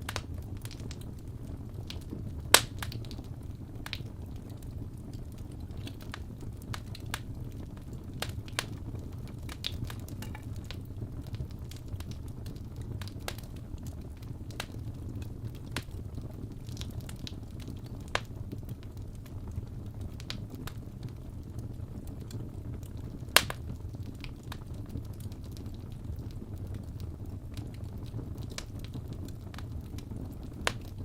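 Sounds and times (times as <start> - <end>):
fire crackling in a fireplace: 0.0 - 31.0.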